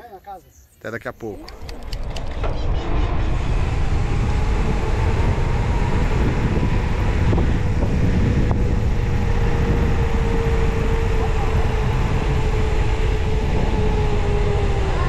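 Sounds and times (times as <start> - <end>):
wind buffeting microphone: 1.3 - 15.0
bike tyres humming on asphalt: 1.5 - 15.0.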